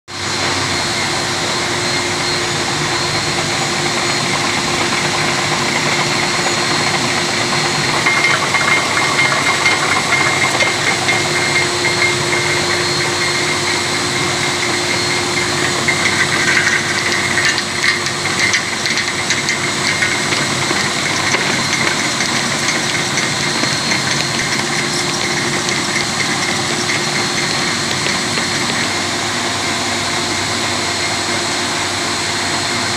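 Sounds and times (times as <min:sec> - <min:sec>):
machine humming with high whines: 0:00.1 - 0:32.9
machine clattering: 0:03.6 - 0:30.0.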